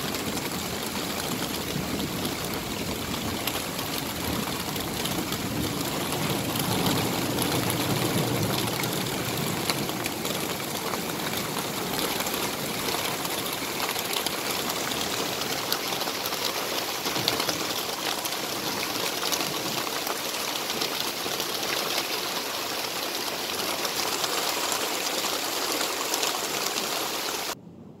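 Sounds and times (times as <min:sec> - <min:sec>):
torrential rain pouring: 0:00.0 - 0:27.6.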